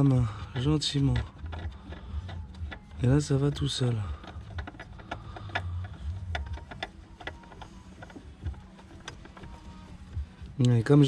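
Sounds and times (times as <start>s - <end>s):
low hum: 0.0s - 11.0s
oil filter threading clicks: 0.4s - 10.8s.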